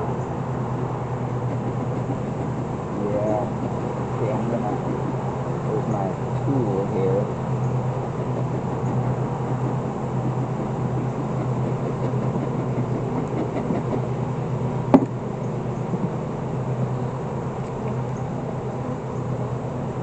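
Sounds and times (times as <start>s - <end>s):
honeybee colony humming: 0.0s - 20.0s.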